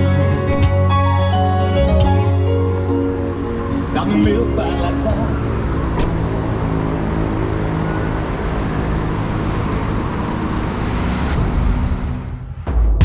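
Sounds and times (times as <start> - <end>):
pickup engine rumble: 0.0 - 12.6
road noise: 0.0 - 12.7.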